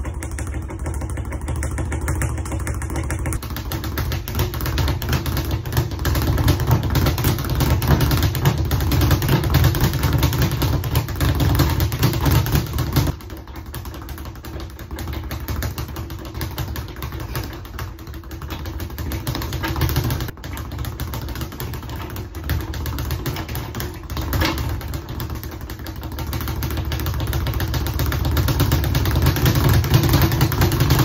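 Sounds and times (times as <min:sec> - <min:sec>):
speed bag rapid drumming: 0:00.0 - 0:31.0.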